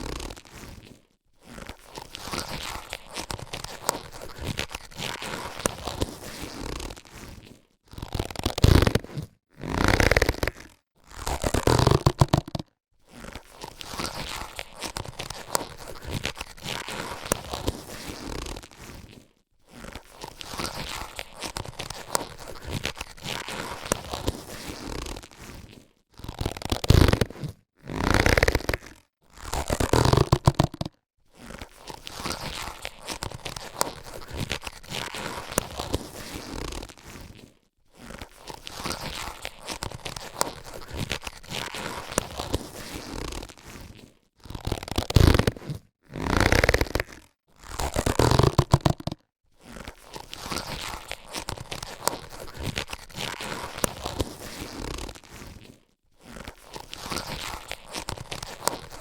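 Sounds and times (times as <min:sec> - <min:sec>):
latex gloves rustling: 0:00.0 - 0:59.0.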